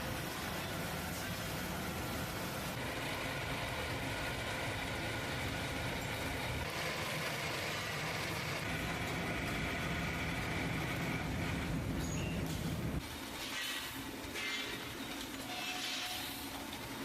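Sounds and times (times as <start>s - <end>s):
factory machinery hum: 0.0s - 17.0s.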